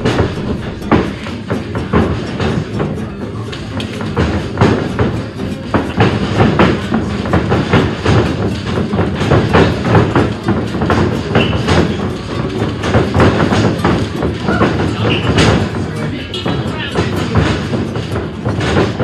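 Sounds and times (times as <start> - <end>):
body hitting ropes: 0.0 - 19.0
footsteps on ring floor: 0.0 - 19.0.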